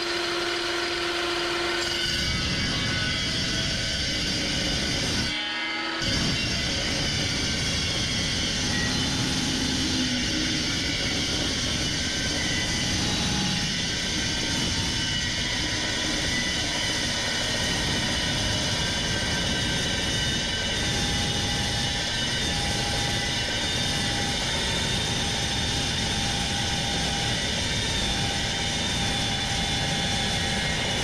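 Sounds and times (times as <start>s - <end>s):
saw cutting through steel: 0.0s - 31.0s.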